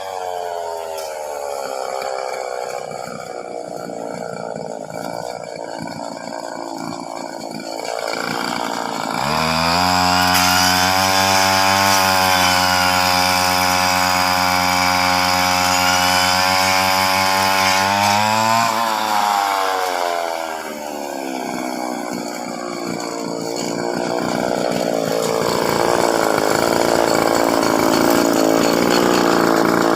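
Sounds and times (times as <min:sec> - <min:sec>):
chainsaw running: 0:00.0 - 0:29.9.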